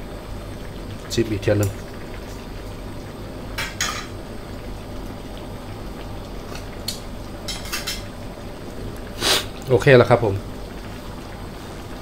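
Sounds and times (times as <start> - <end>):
broth simmering: 0.0 - 12.0.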